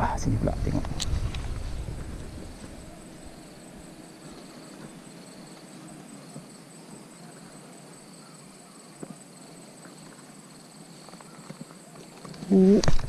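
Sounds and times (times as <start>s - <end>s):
pulsing insect trill: 0.0s - 13.0s.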